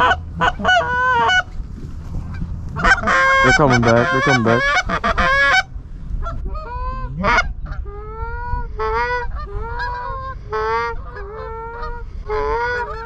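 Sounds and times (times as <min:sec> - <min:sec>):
goose honking: 0:00.0 - 0:01.6, 0:02.2 - 0:13.0
low wind rumble: 0:00.0 - 0:13.0.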